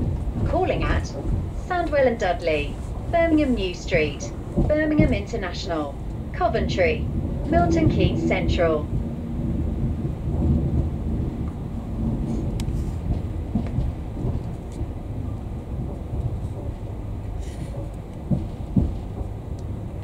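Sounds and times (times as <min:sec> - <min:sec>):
train rumble from inside: 0:00.0 - 0:20.0.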